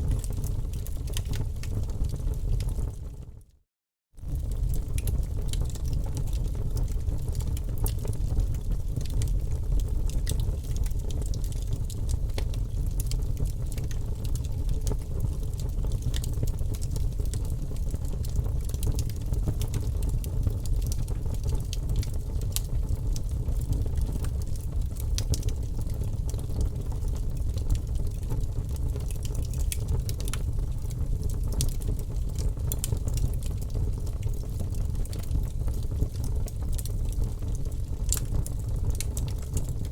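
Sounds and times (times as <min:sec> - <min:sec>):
fire crackling in fireplace: 0:00.0 - 0:03.5, 0:04.2 - 0:39.9.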